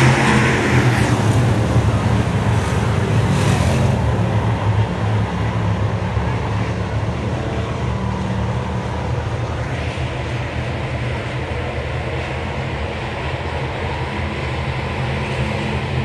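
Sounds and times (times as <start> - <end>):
race car engine drone: 0.0 - 16.0.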